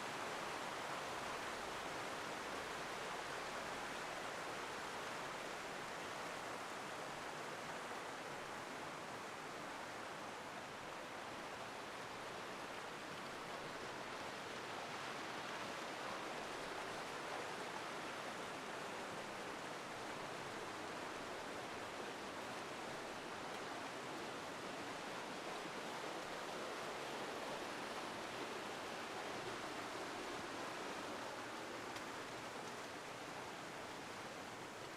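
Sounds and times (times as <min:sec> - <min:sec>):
river rushing over waterfalls: 0:00.0 - 0:34.9.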